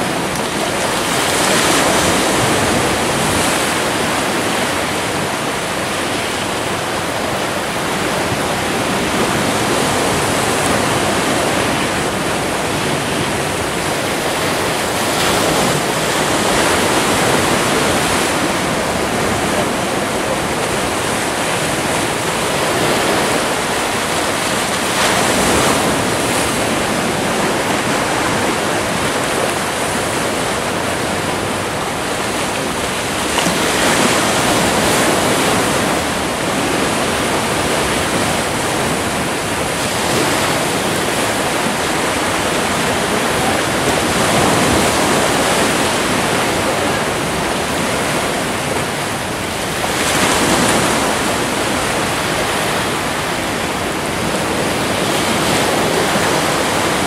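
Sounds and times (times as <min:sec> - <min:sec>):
waves breaking on rocks: 0:00.0 - 0:57.0.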